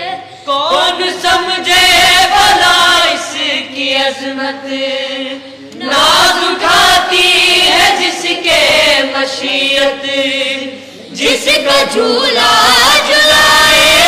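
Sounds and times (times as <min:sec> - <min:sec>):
boys singing together: 0:00.0 - 0:14.0.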